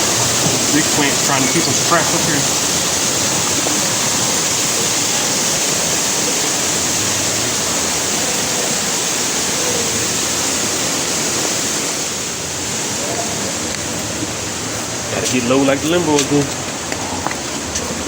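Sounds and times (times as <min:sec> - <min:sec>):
indoor waterfall rushing: 0:00.0 - 0:18.0.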